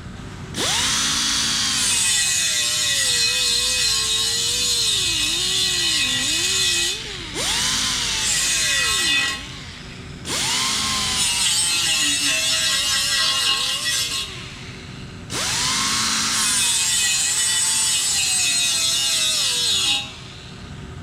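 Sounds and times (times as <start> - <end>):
rotary grinder grinding metal: 0.6 - 20.4.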